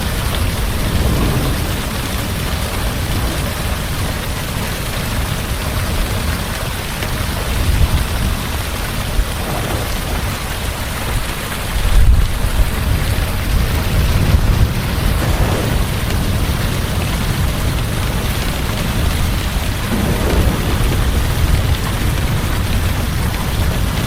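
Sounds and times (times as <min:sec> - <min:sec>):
heavy rain falling: 0:00.0 - 0:24.0
thunder rumbling: 0:00.0 - 0:24.0.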